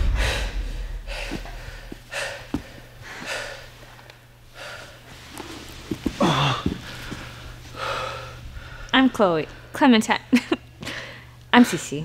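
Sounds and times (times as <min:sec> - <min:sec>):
people breathing hard and gasping: 0:00.0 - 0:09.7, 0:10.8 - 0:11.4.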